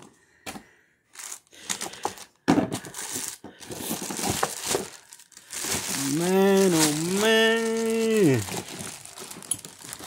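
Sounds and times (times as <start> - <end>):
plastic wrapping crinkling: 1.1 - 10.0.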